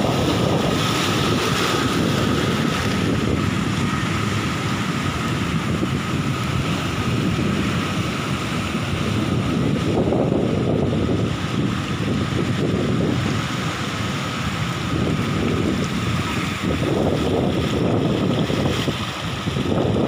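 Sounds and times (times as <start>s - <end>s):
waves crashing on rocks: 0.0s - 20.0s
wind buffeting microphone: 0.0s - 20.0s.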